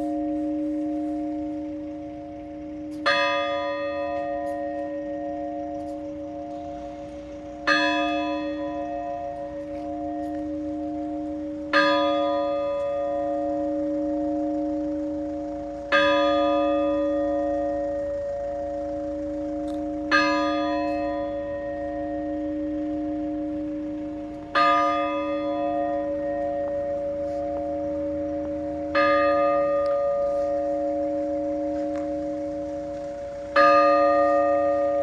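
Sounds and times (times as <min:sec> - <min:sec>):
large church bell tolling: 0:00.0 - 0:35.0.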